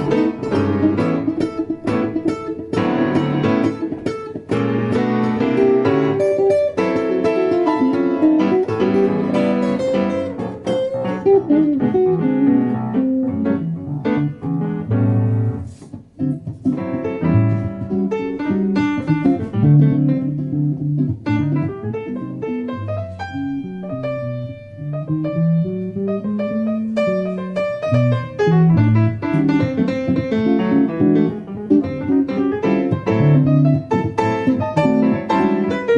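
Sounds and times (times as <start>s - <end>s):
blues guitar playing: 0.0s - 35.9s.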